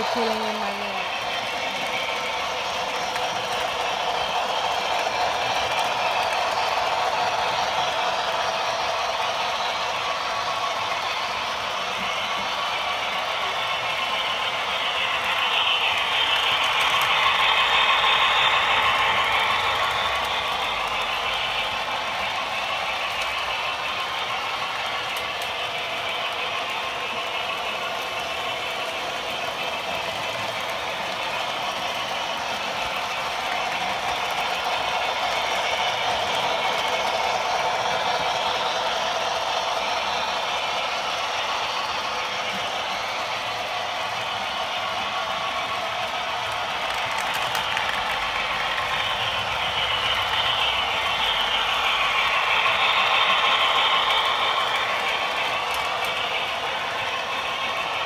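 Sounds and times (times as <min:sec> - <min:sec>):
model trains whirring and rattling: 0:00.0 - 0:58.0.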